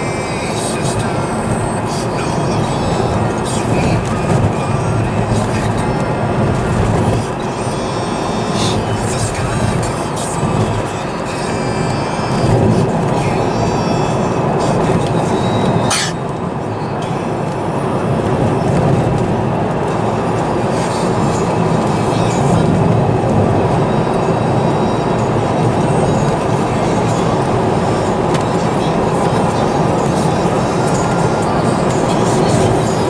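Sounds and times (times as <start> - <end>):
car road and engine noise: 0.0 - 33.0
tyres on road surface: 0.0 - 33.0.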